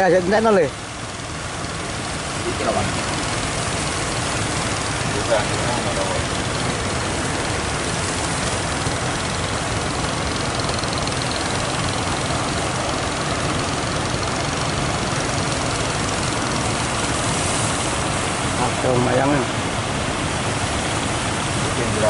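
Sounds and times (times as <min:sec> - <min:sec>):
boat engines rumbling: 0:00.0 - 0:22.0
surf breaking: 0:00.0 - 0:22.0
wind: 0:00.0 - 0:22.0.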